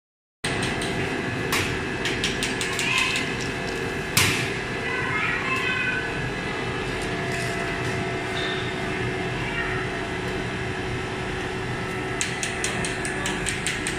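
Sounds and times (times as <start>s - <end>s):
machinery humming: 0.5s - 13.9s.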